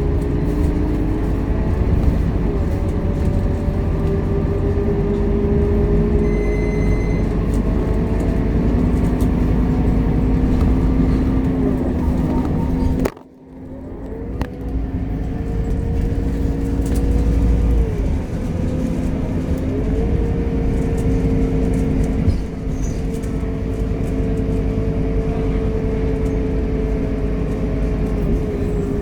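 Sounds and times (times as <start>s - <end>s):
bus engine droning: 0.0s - 29.0s
drivetrain whine: 0.0s - 29.0s.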